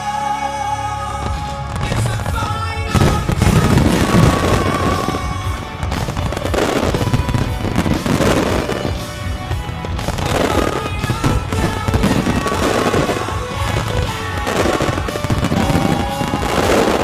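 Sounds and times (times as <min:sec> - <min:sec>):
music: 0:00.0 - 0:17.0
fireworks bangs and crackle: 0:01.2 - 0:17.0.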